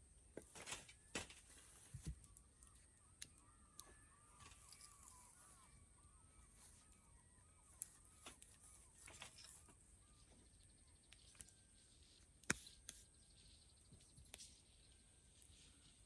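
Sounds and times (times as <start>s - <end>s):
faint bird calls: 0.6s - 16.0s.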